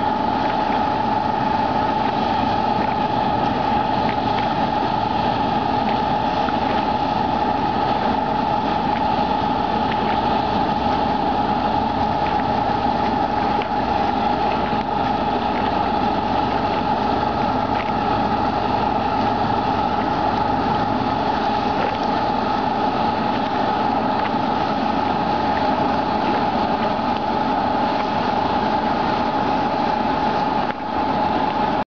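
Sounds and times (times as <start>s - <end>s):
high whine: 0.0s - 31.8s
boat engine drone: 0.0s - 31.9s.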